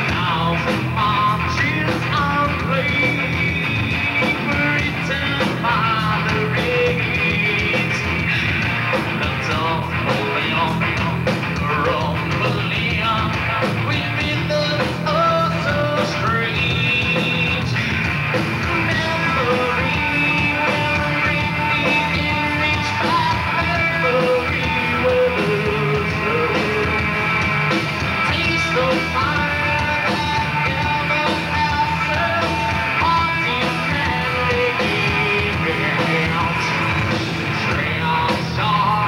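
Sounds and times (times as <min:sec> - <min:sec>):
bass guitar: 0:00.0 - 0:39.0
distorted electric guitars: 0:00.0 - 0:39.0
drum kit with cymbals: 0:00.0 - 0:39.0
person singing and shouting: 0:00.0 - 0:39.0.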